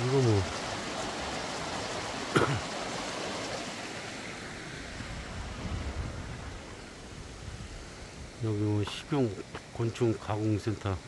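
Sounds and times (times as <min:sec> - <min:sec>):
stream rushing over rocks: 0:00.0 - 0:10.2.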